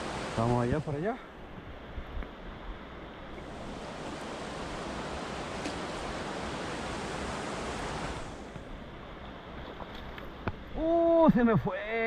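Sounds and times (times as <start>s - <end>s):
rushing river water: 0.0s - 1.6s, 2.4s - 11.2s.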